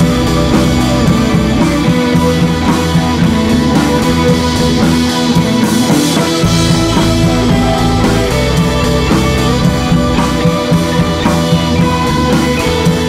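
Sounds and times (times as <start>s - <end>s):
loud background music: 0.0s - 13.0s.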